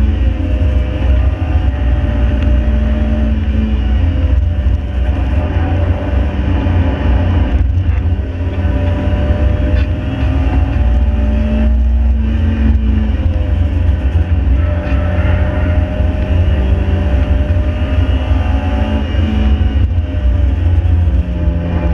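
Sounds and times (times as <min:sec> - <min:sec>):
car engine pulling hard: 0:00.0 - 0:21.9
road rumble: 0:00.0 - 0:21.9.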